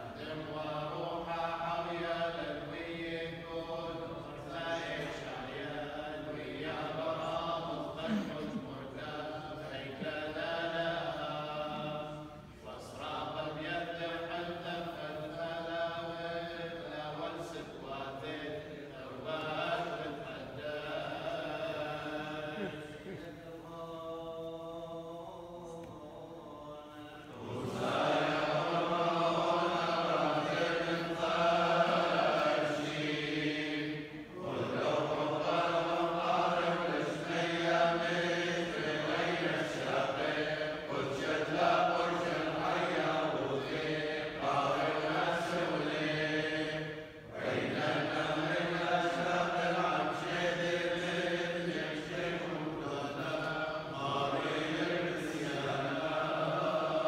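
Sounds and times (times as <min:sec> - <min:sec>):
men chanting prayers: 0:00.0 - 0:57.0.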